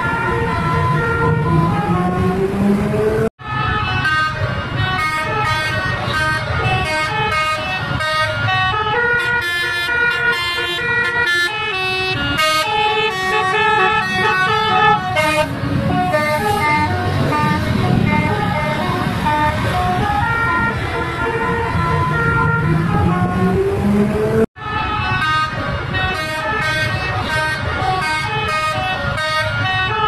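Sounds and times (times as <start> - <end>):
multi-tone bus horn melody: 0.0 - 30.0.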